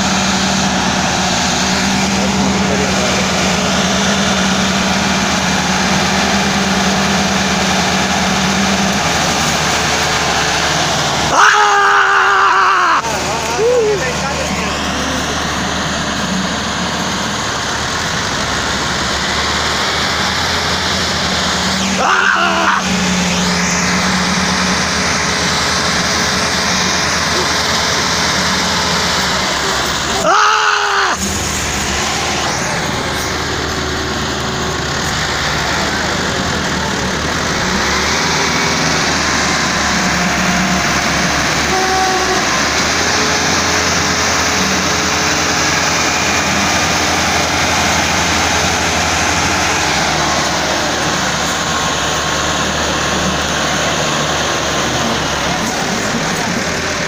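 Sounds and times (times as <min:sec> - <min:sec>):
tractor diesel engines under load: 0:00.0 - 0:57.0.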